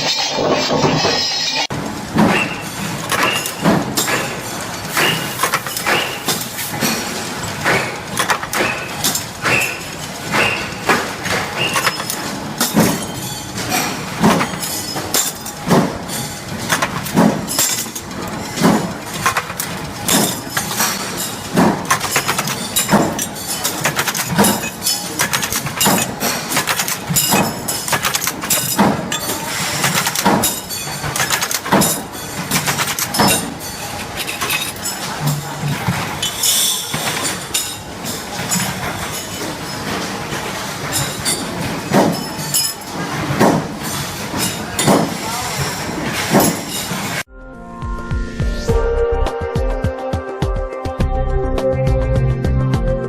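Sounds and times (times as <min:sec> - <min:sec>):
machine metallic strikes and clinks: 0:02.1 - 0:47.2.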